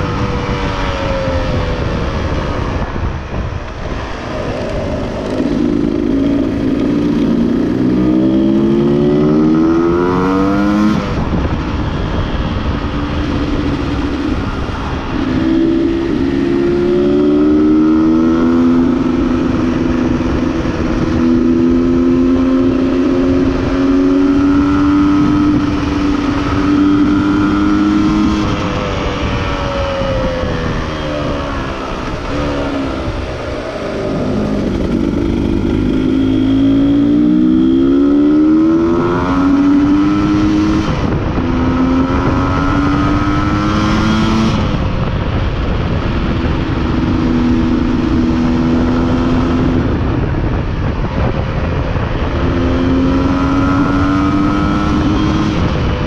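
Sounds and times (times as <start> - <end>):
two-stroke motorcycle engine: 11.0 - 56.0.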